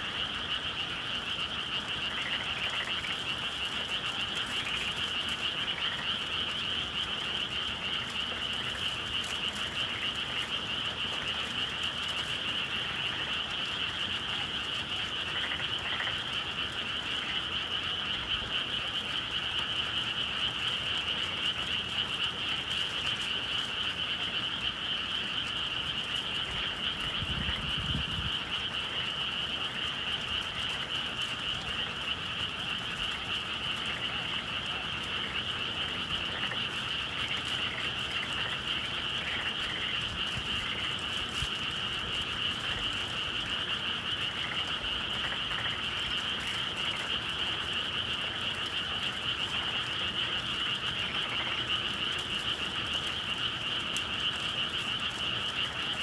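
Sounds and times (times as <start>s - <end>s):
frogs calling in chorus: 0.0s - 56.0s.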